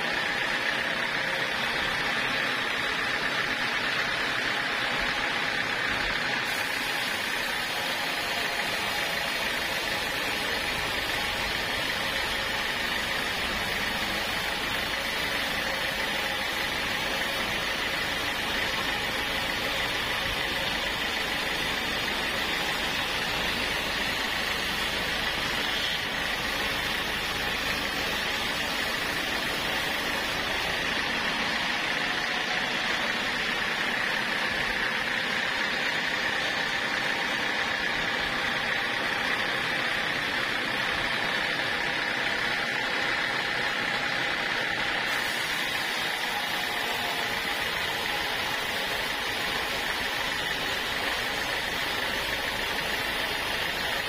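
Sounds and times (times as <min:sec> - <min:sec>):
sawmill saw running with whine: 0:00.0 - 0:54.0.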